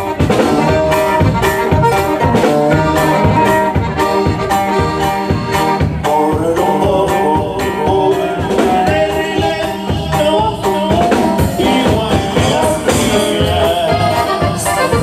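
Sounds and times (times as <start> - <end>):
drum kit beat: 0.0 - 15.0
live band playing: 0.0 - 15.0.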